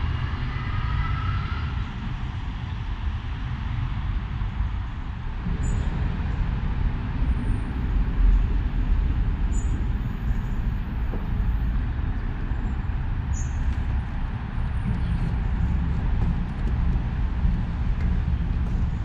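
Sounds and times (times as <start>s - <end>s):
boat engine rumbling: 3.4s - 19.0s.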